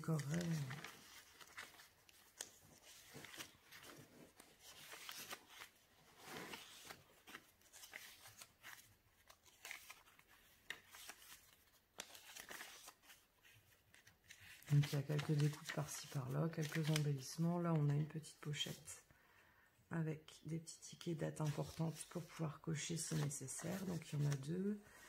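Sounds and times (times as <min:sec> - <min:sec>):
paper pages rustling: 0:00.0 - 0:18.9, 0:21.4 - 0:25.0.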